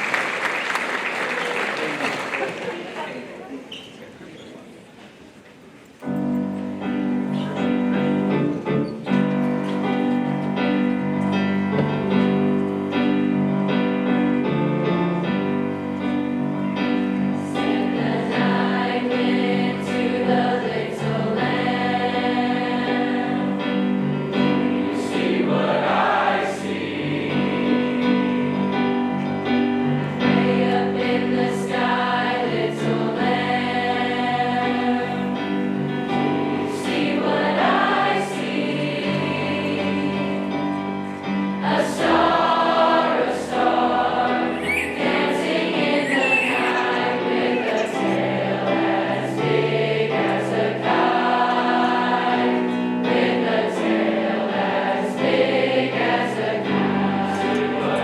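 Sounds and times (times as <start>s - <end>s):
choir singing in harmony: 6.0s - 58.0s.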